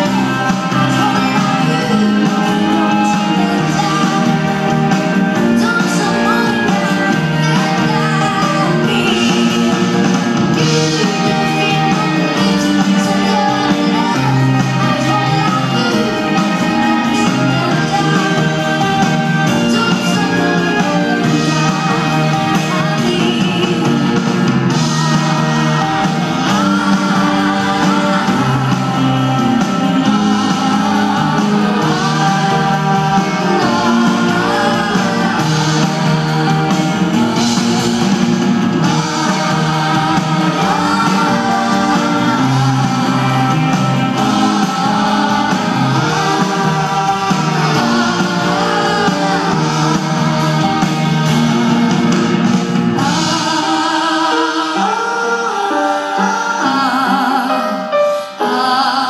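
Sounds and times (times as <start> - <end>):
backing vocals: 0.0 - 59.0
live pop band playing: 0.0 - 59.0
woman singing lead: 0.0 - 59.0.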